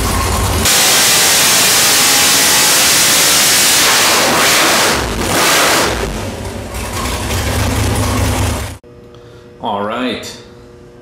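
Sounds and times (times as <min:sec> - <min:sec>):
engine roaring: 0:00.0 - 0:08.8.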